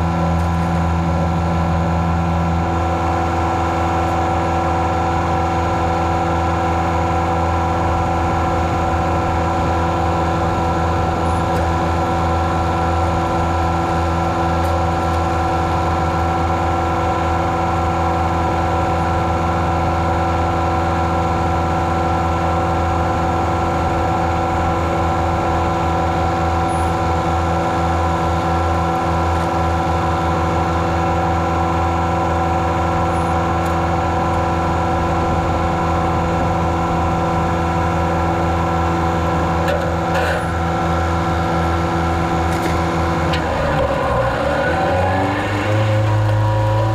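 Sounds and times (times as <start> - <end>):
engine humming steadily: 0.0 - 46.9.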